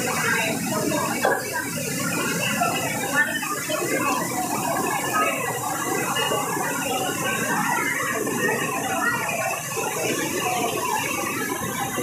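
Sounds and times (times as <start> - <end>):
crowd voices: 0.0 - 12.0
heavy rain falling: 0.0 - 12.0.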